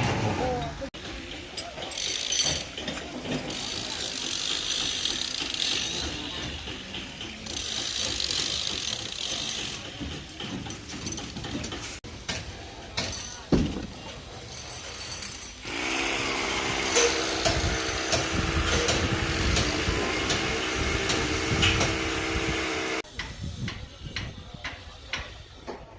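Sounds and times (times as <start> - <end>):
metal and tools clicking and rattling: 0.1 - 15.7, 16.6 - 25.9.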